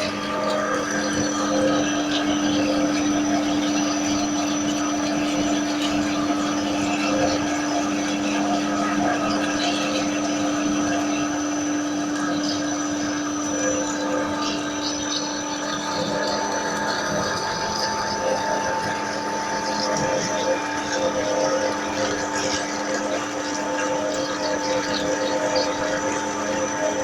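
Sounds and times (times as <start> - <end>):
lathe humming and whining: 0.0 - 27.0.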